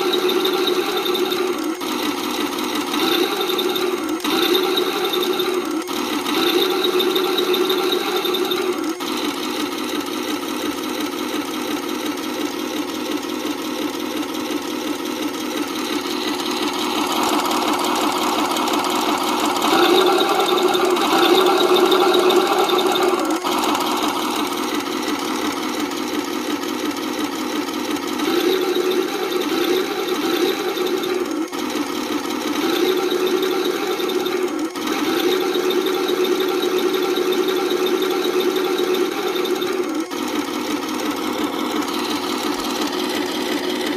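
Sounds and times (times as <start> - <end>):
simulated tank engine from speaker: 0.0 - 43.9.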